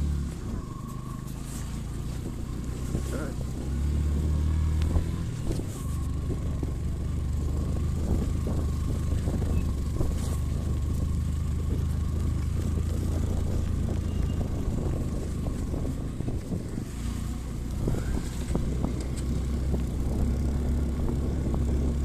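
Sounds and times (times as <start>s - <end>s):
motorcycle engine droning: 0.0s - 22.0s
wind on microphone: 1.4s - 22.0s.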